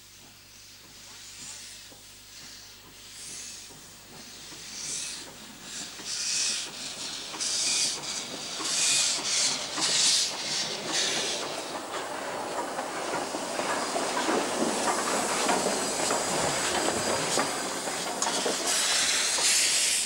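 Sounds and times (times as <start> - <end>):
steam locomotive chuffing: 0.1 - 20.0.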